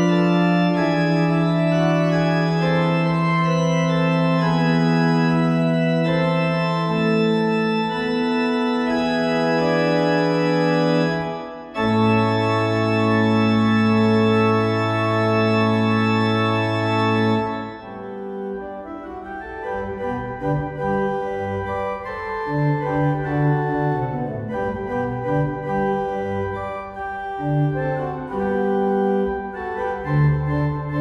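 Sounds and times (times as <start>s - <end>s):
electronic organ playing: 0.0s - 31.0s.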